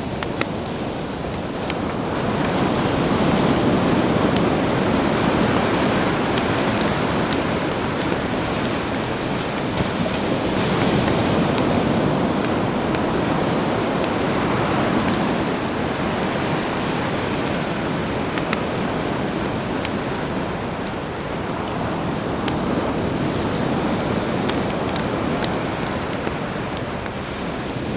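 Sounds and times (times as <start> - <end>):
campfire crackling and popping: 0.0 - 27.9
sea waves washing ashore: 0.0 - 27.9.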